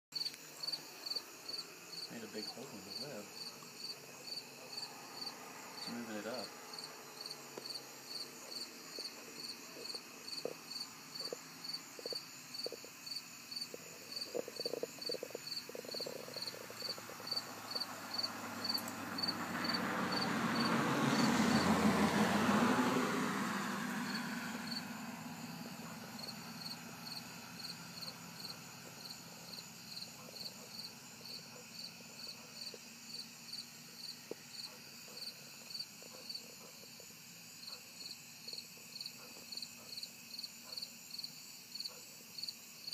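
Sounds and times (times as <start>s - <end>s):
insect chirping: 0.2s - 42.9s.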